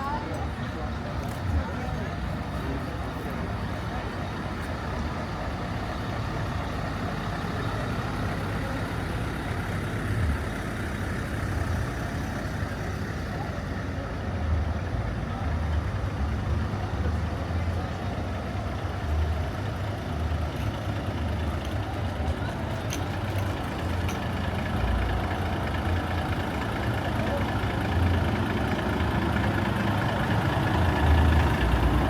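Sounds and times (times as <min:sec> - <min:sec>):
diesel truck engine idling: 0:00.0 - 0:32.0
outdoor crowd hubbub: 0:00.0 - 0:32.0.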